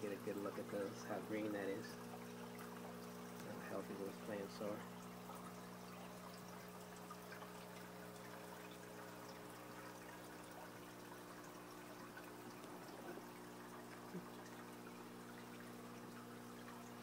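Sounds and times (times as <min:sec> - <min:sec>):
low electrical hum: 0:00.0 - 0:17.0
water trickling and pouring: 0:00.0 - 0:17.0.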